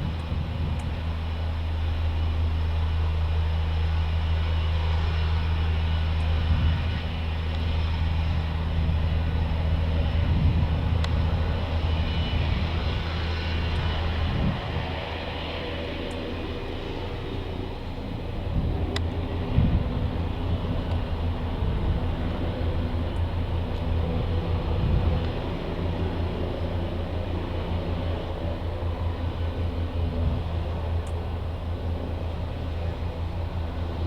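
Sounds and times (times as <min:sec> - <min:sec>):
helicopter rotors droning: 0:00.0 - 0:34.0.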